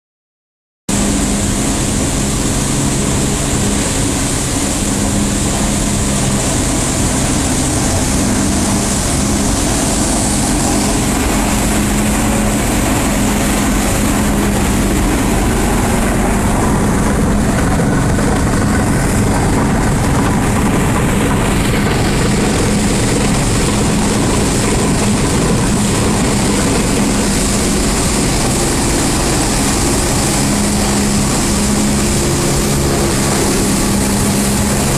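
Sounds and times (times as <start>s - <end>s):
industrial machine din: 0.9s - 34.9s.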